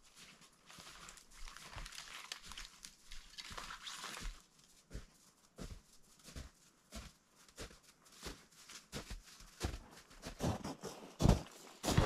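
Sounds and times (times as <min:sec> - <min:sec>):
footsteps in snow: 0:00.0 - 0:12.0.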